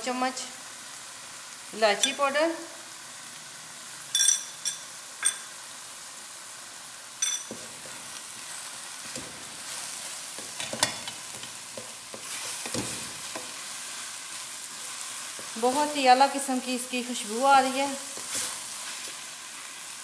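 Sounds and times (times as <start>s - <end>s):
soft sizzle: 0.0s - 20.0s.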